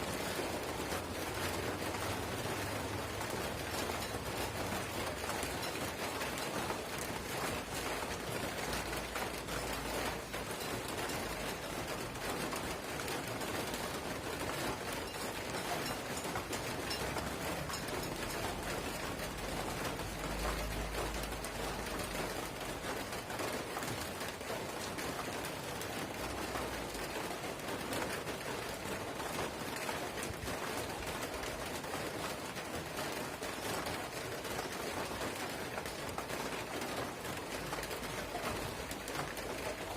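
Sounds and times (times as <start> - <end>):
light drizzle pattering: 0.0 - 39.9.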